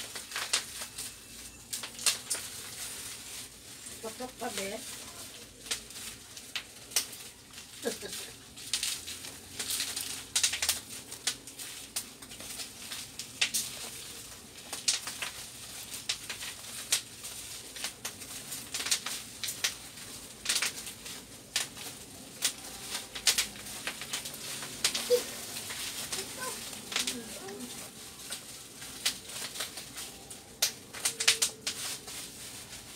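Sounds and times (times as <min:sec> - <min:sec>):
plastic wrapping crinkling: 0:00.0 - 0:32.9.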